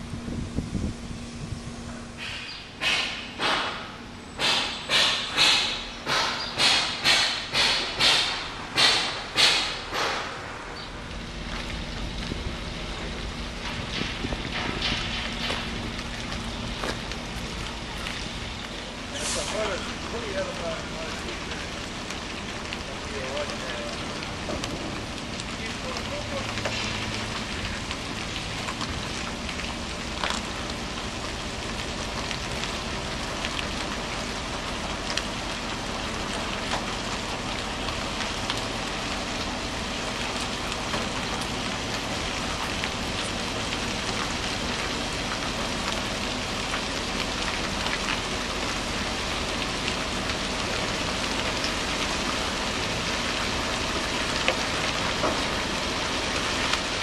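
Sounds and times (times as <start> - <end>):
light rain hissing: 0.0 - 57.0
truck diesel engine hum: 0.0 - 57.0.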